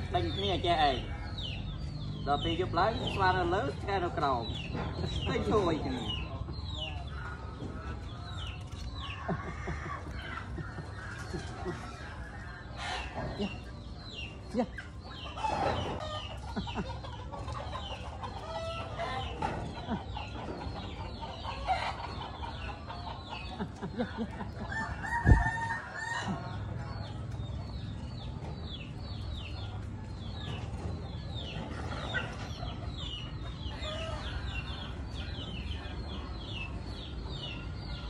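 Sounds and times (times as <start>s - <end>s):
chickens clucking: 0.0s - 38.0s.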